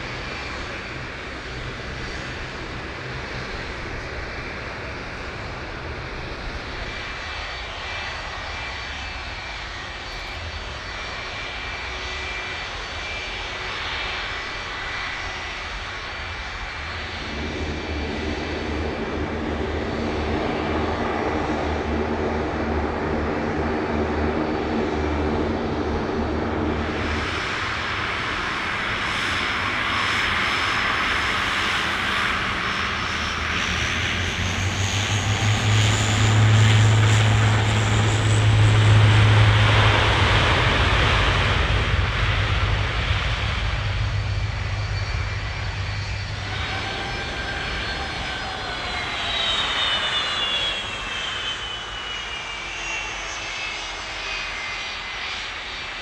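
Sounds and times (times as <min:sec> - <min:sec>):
airliner engines whining: 0:00.0 - 0:56.0.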